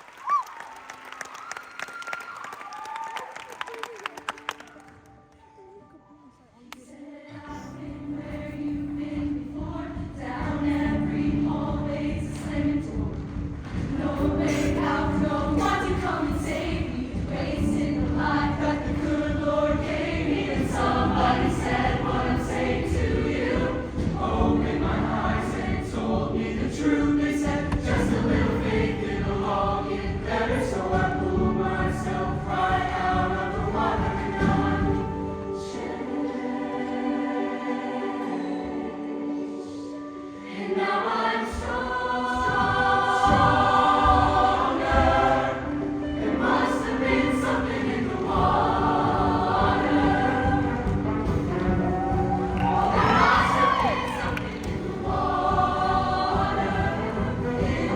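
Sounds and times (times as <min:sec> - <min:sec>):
choir singing in harmony: 0:06.8 - 0:57.9.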